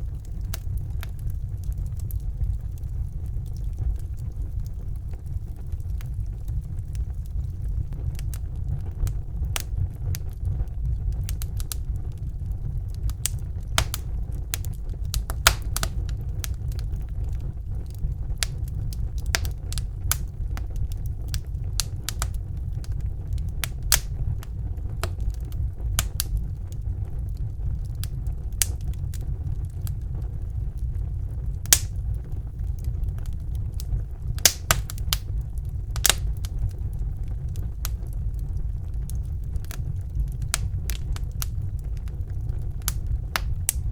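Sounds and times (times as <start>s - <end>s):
wood fire burning: 0.0s - 43.9s.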